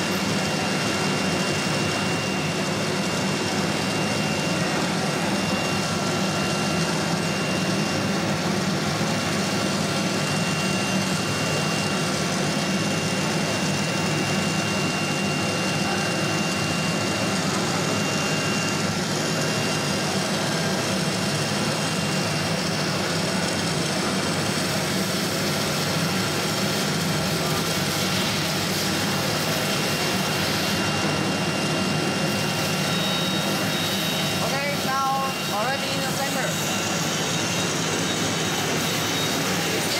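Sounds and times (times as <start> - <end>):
high whine: 0.0 - 22.0, 26.3 - 39.9
router machine whirring: 0.0 - 39.9.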